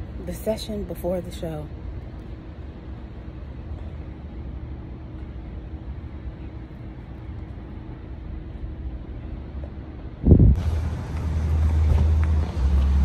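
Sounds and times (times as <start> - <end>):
faint constant hum: 0.0 - 13.0
low rumble of city traffic: 0.0 - 13.0.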